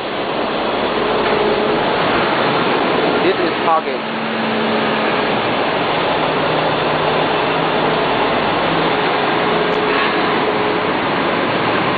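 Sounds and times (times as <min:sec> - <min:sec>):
loud machinery noise: 0:00.0 - 0:11.9.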